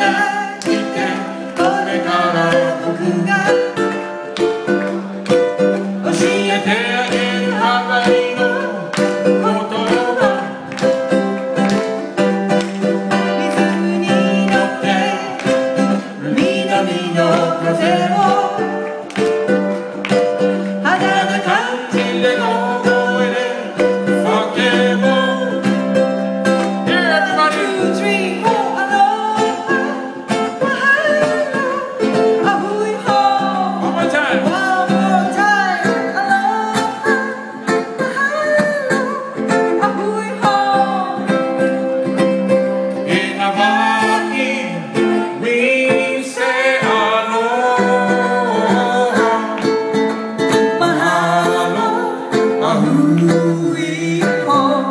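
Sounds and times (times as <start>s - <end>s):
woman singing: 0.0s - 4.0s, 6.0s - 10.8s, 13.1s - 19.1s, 20.8s - 25.9s, 26.8s - 41.8s, 43.0s - 49.7s, 50.6s - 54.9s
ukulele and guitar strumming: 0.0s - 54.9s.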